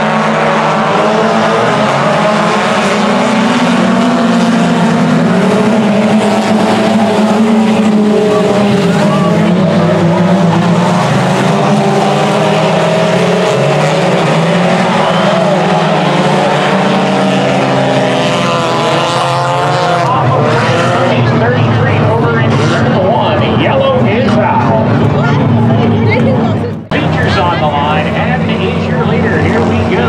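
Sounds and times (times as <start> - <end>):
race car engines: 0.0 - 30.0.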